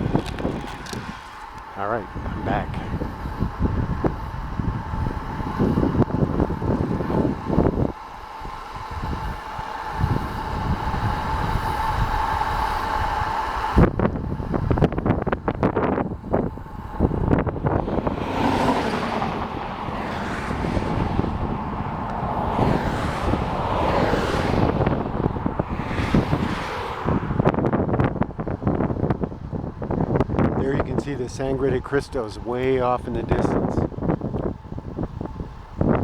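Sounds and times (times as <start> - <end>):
tyre and road noise: 0.0 - 36.0
wind on microphone: 0.0 - 36.0.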